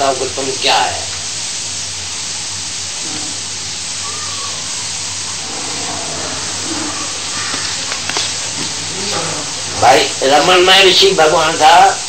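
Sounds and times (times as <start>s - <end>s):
low electrical hum: 0.0s - 12.0s
recording hiss: 0.0s - 12.0s.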